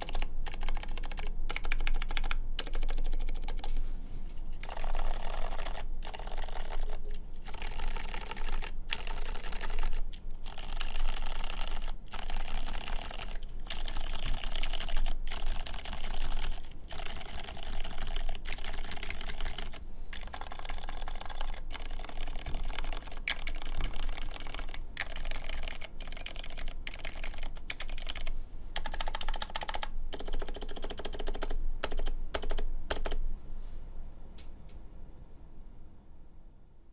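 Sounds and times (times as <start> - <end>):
mechanical keyboard typing: 0.0 - 3.8, 4.6 - 33.2.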